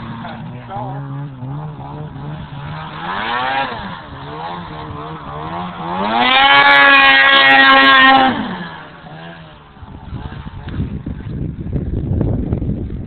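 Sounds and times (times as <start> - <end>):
snowmobile engine revving: 0.0 - 11.3.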